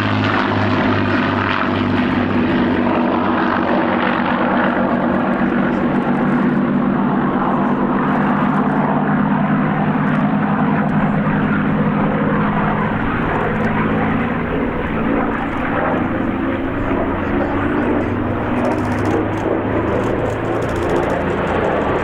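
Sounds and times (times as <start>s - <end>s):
propeller aircraft engines: 0.0s - 22.0s.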